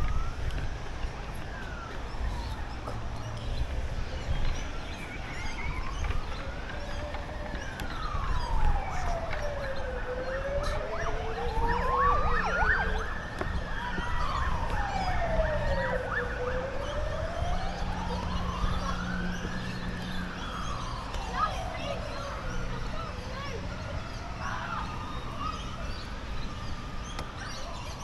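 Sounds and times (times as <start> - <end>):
emergency vehicle siren wailing: 0.0 - 28.0.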